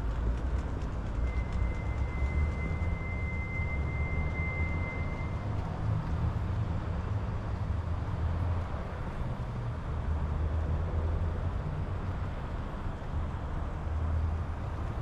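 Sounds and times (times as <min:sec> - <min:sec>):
street ambience rumble: 0:00.0 - 0:15.0.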